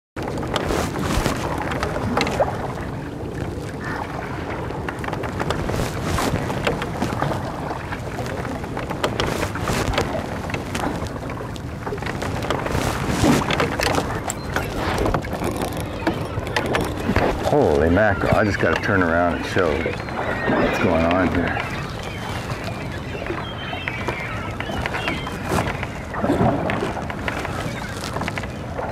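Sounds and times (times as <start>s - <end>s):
oars knocking and splashing: 0.2s - 28.9s
water noise: 0.2s - 28.9s
wind buffeting microphone: 0.2s - 28.9s.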